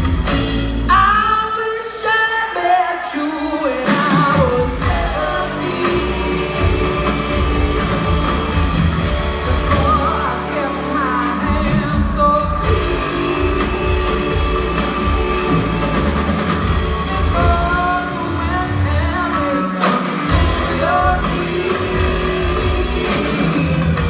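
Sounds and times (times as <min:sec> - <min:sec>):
live band playing: 0:00.0 - 0:24.0
woman singing: 0:00.9 - 0:24.0.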